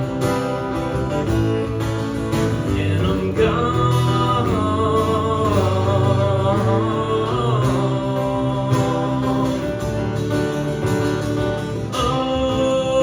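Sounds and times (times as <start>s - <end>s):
acoustic guitar chords: 0.0s - 13.0s
person singing: 2.4s - 13.0s.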